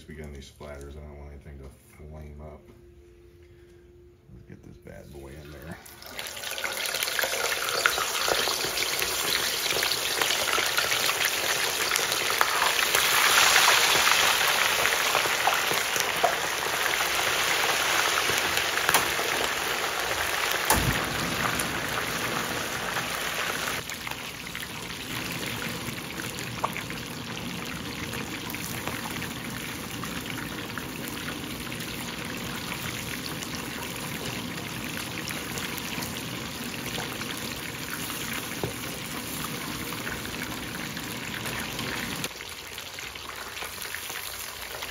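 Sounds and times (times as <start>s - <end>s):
fish deep-frying in hot oil: 6.0s - 44.9s.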